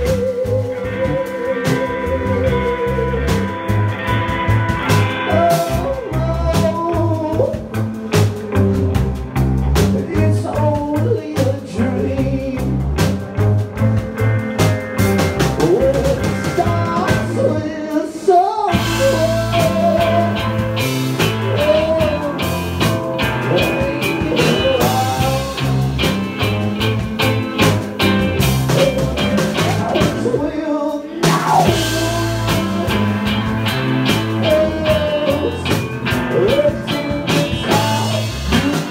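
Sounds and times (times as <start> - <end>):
man singing: 0.0 - 3.7, 4.9 - 7.8, 9.8 - 13.1, 15.5 - 26.4, 28.6 - 38.9
rock band playing: 0.0 - 38.9.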